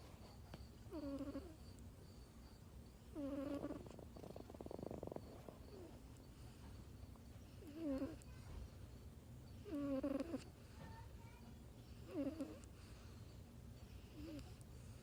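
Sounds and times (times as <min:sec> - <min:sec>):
kitten snoring: 0:00.9 - 0:08.4, 0:09.5 - 0:15.0.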